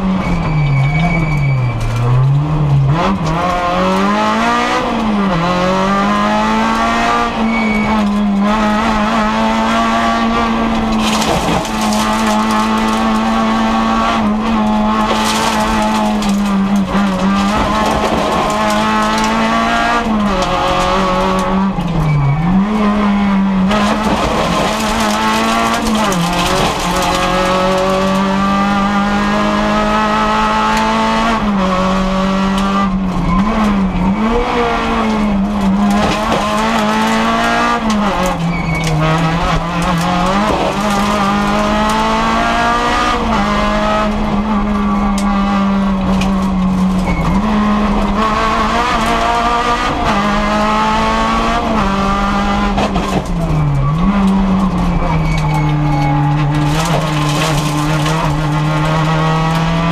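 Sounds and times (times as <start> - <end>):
rally car engine at high revs: 1.8 - 59.9.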